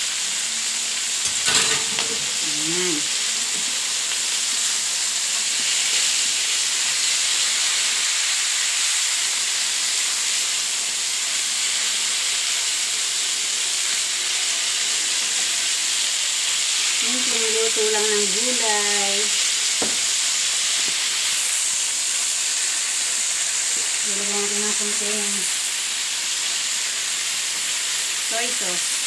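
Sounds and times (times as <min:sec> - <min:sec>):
vegetables sizzling in a wok: 0:00.0 - 0:29.0.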